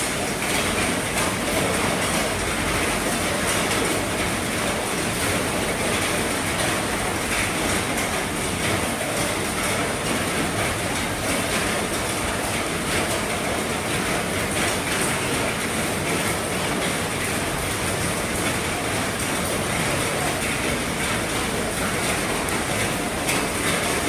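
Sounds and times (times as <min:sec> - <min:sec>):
heavy rain on a roof: 0:00.0 - 0:24.0.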